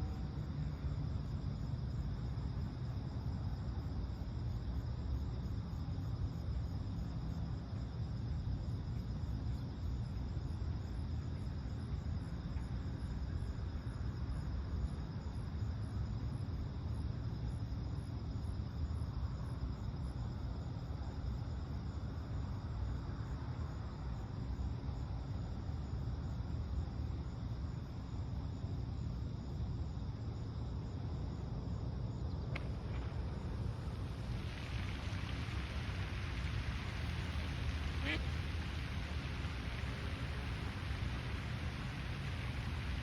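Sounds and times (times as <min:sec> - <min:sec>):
low continuous rumble: 0:00.0 - 0:43.0
night insects chirping: 0:00.0 - 0:43.0.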